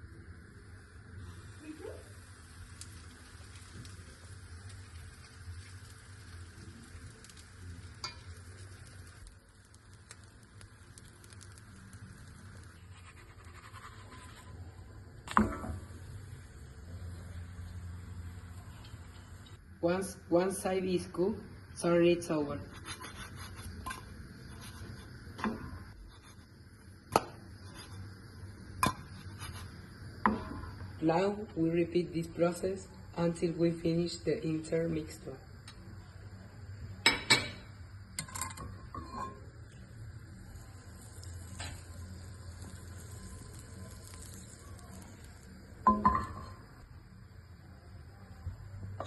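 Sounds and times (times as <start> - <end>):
batter sizzling in frying pan: 0.0 - 47.2.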